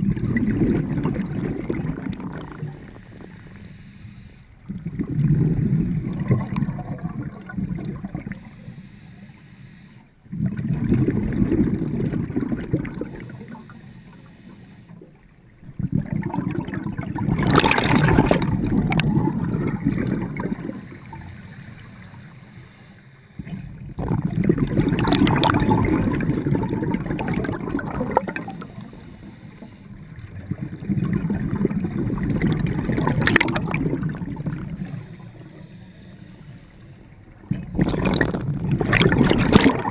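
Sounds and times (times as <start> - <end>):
underwater exhaled air bubbling: 0.0 - 39.9.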